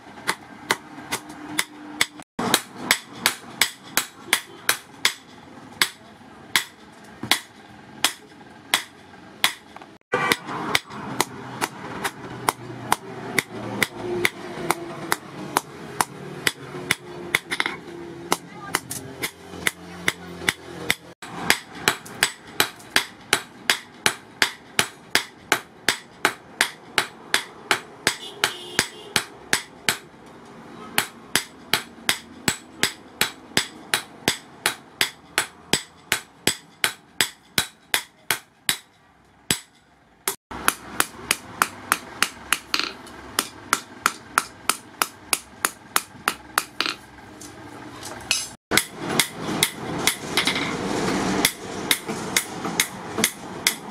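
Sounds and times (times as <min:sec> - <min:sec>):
hammer beating steel on anvil: 0:00.2 - 0:30.1, 0:30.9 - 0:47.0, 0:48.3 - 0:53.9.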